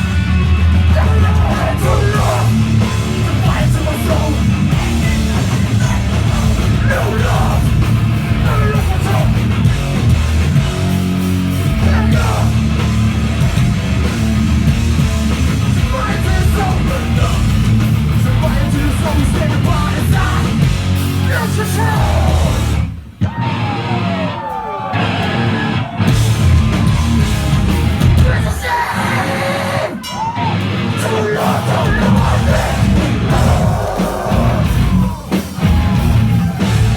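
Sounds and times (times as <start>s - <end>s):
hardcore band playing live: 0.0s - 36.9s
yelled vocals: 0.0s - 36.9s.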